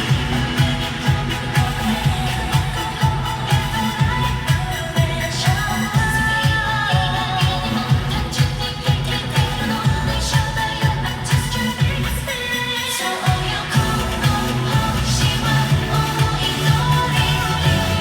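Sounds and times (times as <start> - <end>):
steady bass beat: 0.0 - 12.5, 13.3 - 18.0
pop song over speaker: 0.0 - 18.0.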